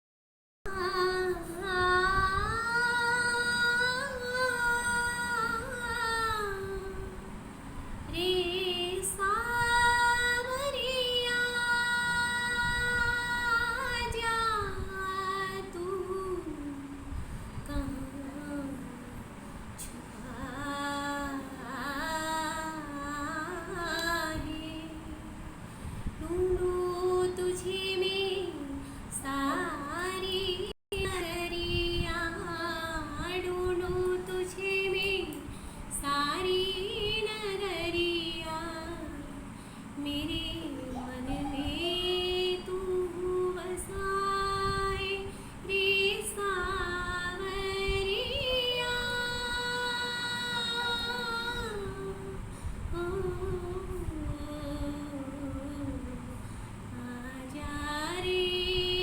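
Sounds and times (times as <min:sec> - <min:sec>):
woman singing slow melody: 0:00.7 - 0:59.0.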